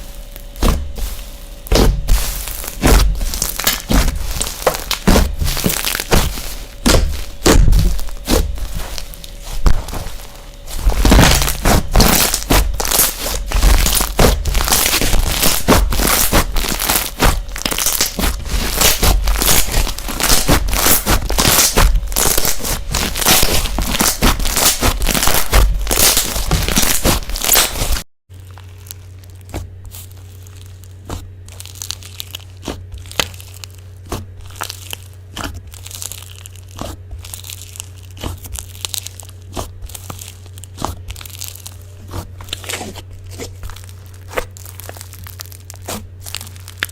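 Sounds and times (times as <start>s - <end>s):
steady low hum: 0.0s - 46.9s
slime crackling and popping: 0.2s - 46.9s.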